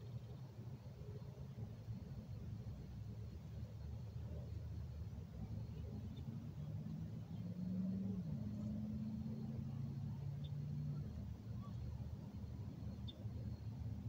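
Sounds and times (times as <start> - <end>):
distant engine droning: 1.4 - 14.0.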